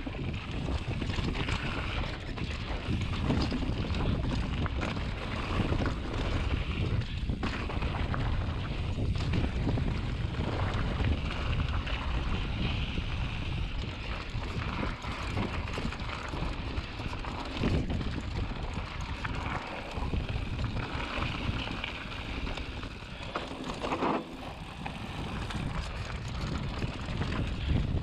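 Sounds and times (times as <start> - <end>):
bike rattling over bumps: 0.0 - 28.0
bike tyres rolling on dirt: 0.0 - 28.0
wind buffeting microphone: 0.0 - 28.0.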